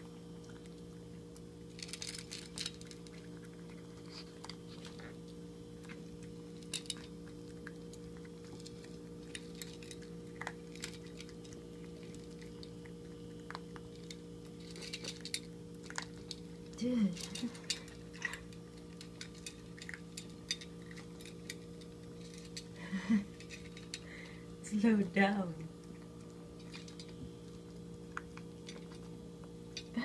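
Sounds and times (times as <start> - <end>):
dog crunching kibble in metal bowl: 0.0 - 30.0
steady low hum: 0.0 - 30.0.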